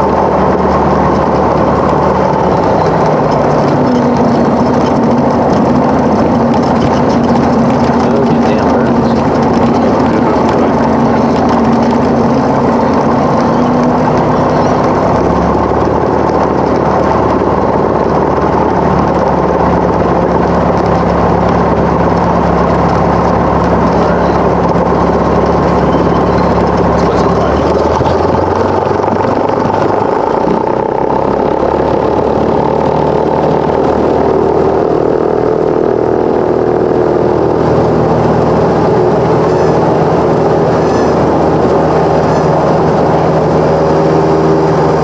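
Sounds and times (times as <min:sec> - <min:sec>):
piston aircraft engine running: 0:00.0 - 0:45.0.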